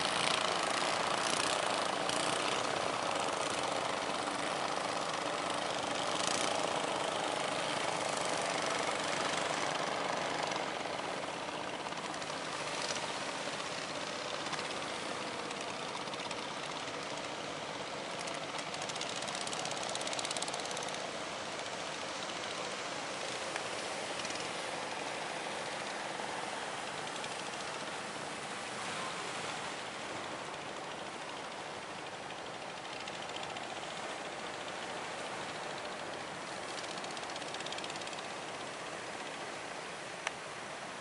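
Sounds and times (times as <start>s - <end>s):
broad rushing noise: 0.0s - 41.0s
engine running steadily: 0.0s - 41.0s.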